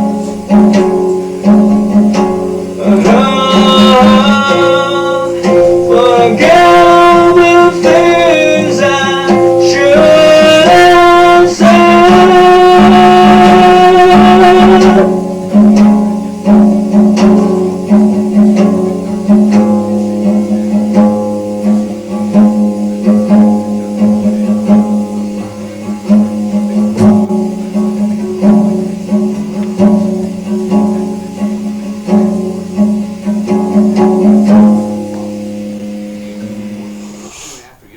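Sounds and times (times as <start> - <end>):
blues guitar: 0.0 - 37.9
sung melodic line: 0.0 - 37.9.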